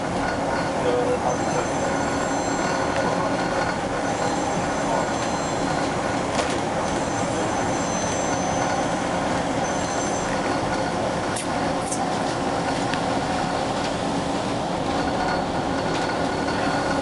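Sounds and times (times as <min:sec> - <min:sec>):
bus running and road noise: 0:00.0 - 0:17.0.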